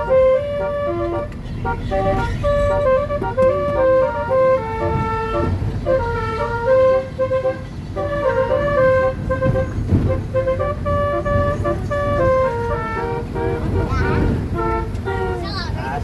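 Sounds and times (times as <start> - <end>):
electronic horn melody: 0.0 - 15.4.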